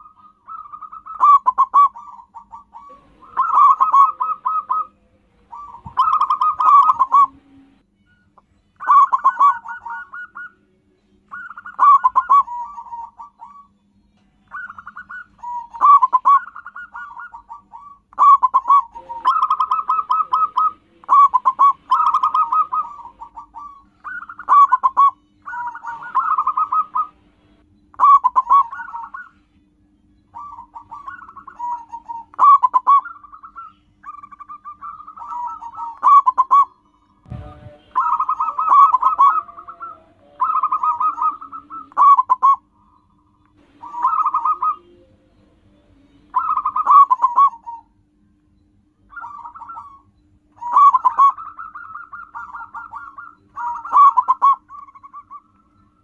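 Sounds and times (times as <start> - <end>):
dove cooing: 0.0 - 7.8, 8.8 - 10.6, 11.3 - 13.8, 14.5 - 27.2, 28.0 - 29.4, 30.3 - 42.7, 43.6 - 45.1, 46.3 - 48.1, 49.1 - 56.0.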